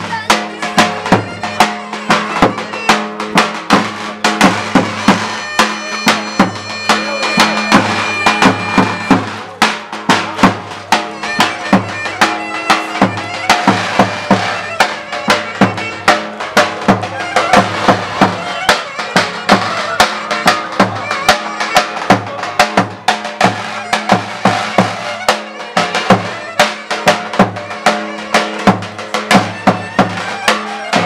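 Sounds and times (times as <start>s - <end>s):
drum beating: 0.0s - 31.0s
reedy wind instrument melody: 0.0s - 31.0s.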